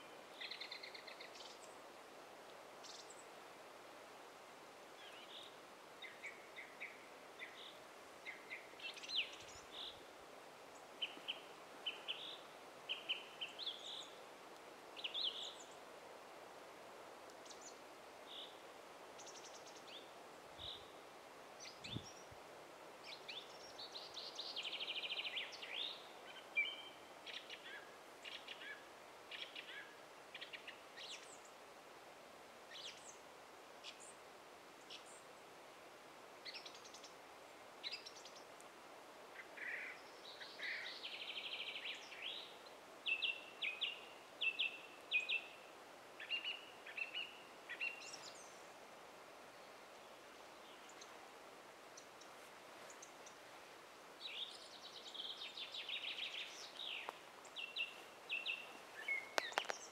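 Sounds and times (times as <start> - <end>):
small birds chirping and twittering: 0.0 - 1.9, 2.8 - 3.4, 4.9 - 10.1, 10.7 - 14.2, 15.0 - 15.9, 17.4 - 21.0, 21.6 - 22.4, 23.0 - 31.6, 32.7 - 35.6, 36.4 - 38.7, 39.3 - 48.8, 49.4 - 59.9
faint steady hiss: 0.0 - 59.9.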